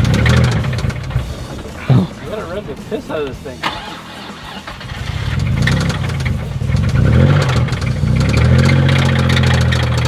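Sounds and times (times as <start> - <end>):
car engine revving with knock: 0.0 - 10.0
fast engine clatter: 0.0 - 10.0.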